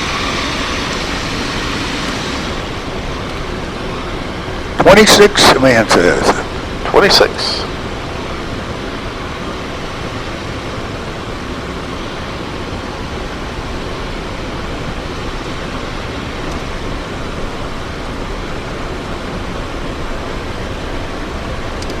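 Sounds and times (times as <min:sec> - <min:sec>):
airflow over cockpit: 0:00.0 - 0:22.0
jet engines running: 0:00.0 - 0:22.0.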